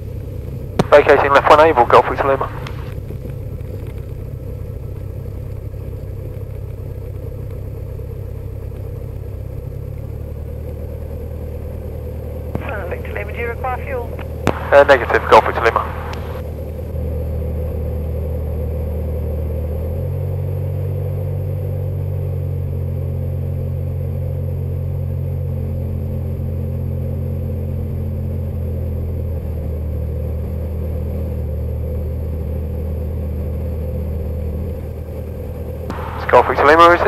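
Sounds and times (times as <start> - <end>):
light aircraft engine droning: 0.0 - 37.0.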